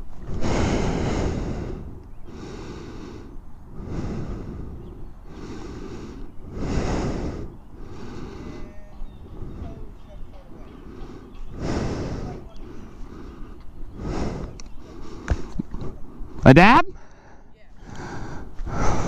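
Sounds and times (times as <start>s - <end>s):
heavy breathing: 0.0s - 19.0s.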